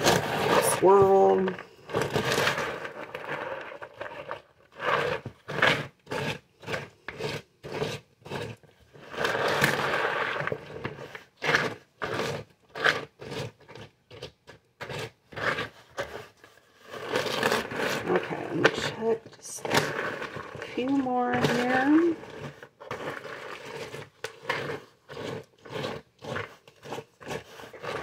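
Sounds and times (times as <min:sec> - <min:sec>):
wooden spoon scraping plastic bowl: 0:00.0 - 0:28.0.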